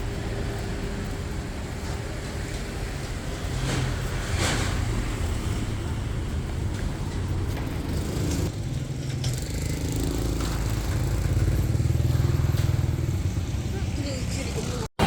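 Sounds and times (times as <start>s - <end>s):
steady engine hum: 0.0s - 15.0s.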